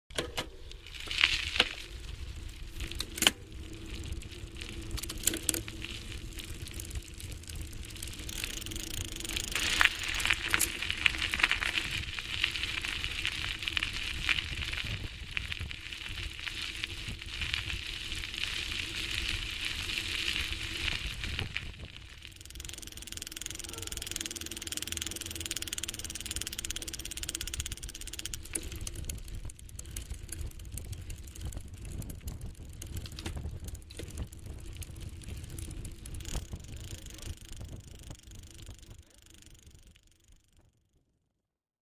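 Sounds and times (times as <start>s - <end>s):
bicycle clicks: 0.1s - 41.0s
bicycle drivetrain and tyres: 0.1s - 41.2s.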